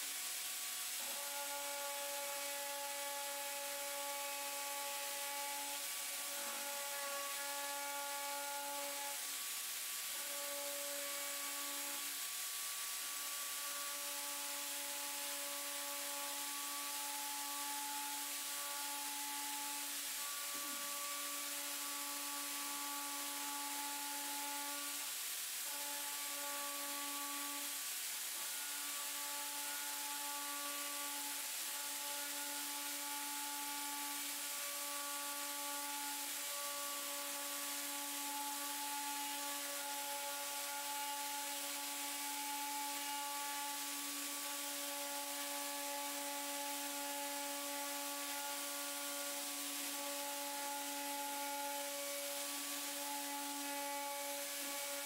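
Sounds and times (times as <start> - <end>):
rotary grinding tool whine: 0.0 - 55.0.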